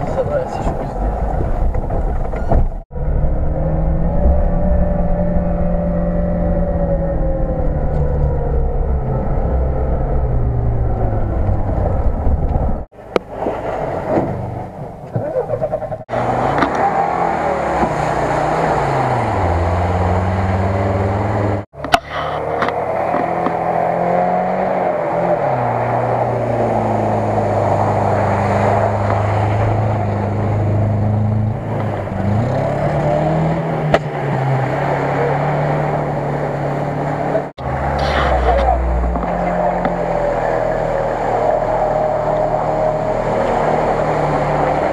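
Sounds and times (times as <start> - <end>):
off-road engines revving in water: 3.0 - 44.9.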